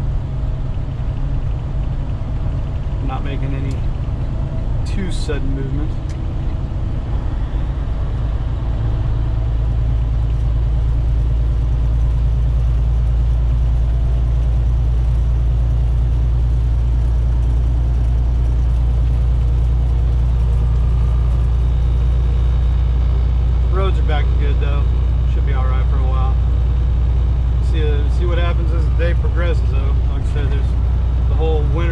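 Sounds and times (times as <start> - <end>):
truck diesel engine drone: 0.0 - 31.9.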